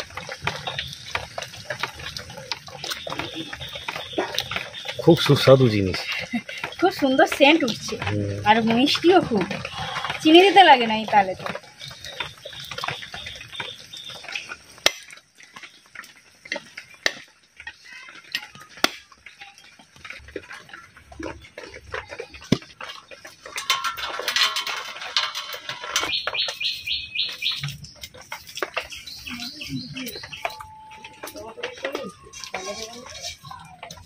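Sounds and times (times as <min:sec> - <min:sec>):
birds chirping: 0:00.0 - 0:34.0
kitchen utensils and pots clinking: 0:00.0 - 0:34.0.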